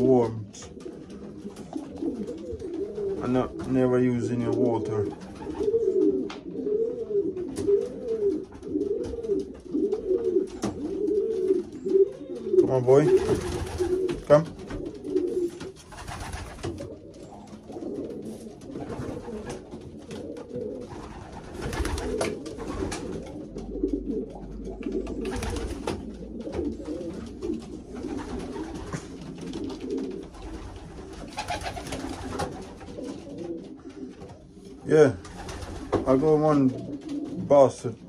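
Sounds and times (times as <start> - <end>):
pigeons cooing: 0.0 - 38.0.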